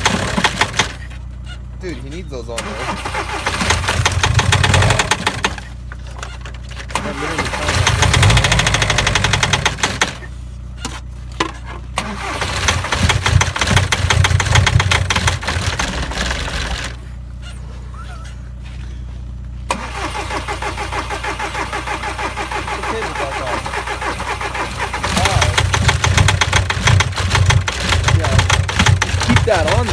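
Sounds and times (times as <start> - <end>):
diesel engine knocking: 0.0 - 1.5, 2.3 - 6.1, 6.9 - 10.4, 12.0 - 17.4, 19.7 - 29.9.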